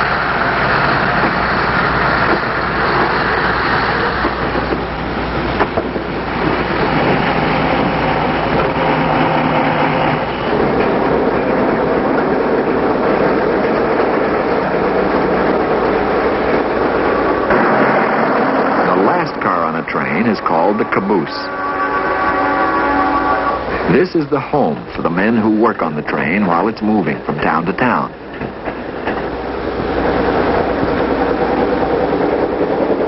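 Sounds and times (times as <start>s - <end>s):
freight train rolling on rails: 0.0s - 33.0s.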